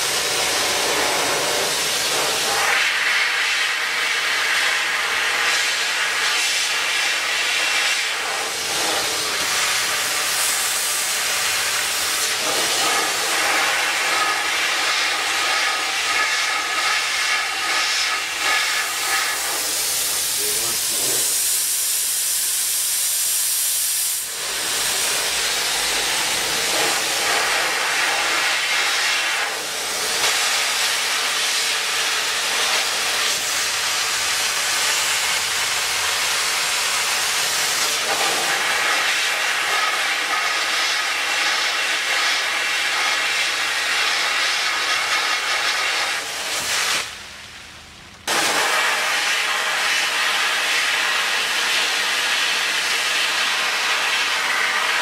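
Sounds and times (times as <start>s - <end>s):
sandblaster hissing: 0.0s - 47.2s, 48.3s - 55.0s.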